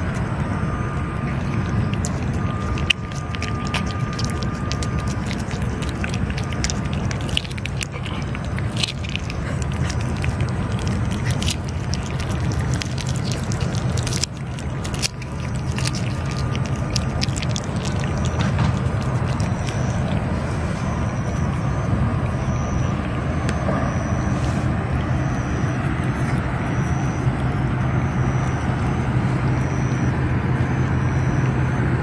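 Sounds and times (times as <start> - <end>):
steady low rumble: 0.0 - 32.0
cats licking wet smacking: 1.1 - 23.4, 24.2 - 31.7.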